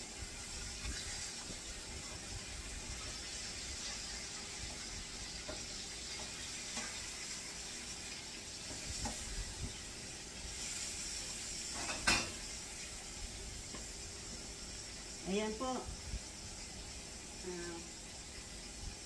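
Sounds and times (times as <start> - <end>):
fish sizzling in a pan: 0.0 - 19.0.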